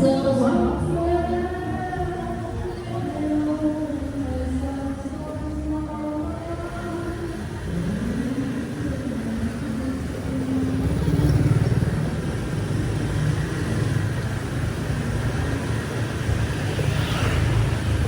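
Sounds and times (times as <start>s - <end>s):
motorbike and car engines passing: 0.0s - 18.0s.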